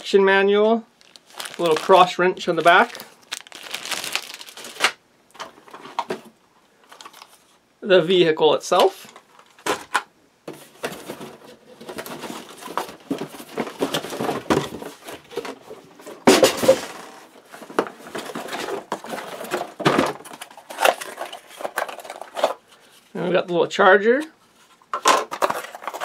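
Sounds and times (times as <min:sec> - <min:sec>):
packaging rustling: 0:00.9 - 0:07.6, 0:09.1 - 0:22.7, 0:24.9 - 0:26.0.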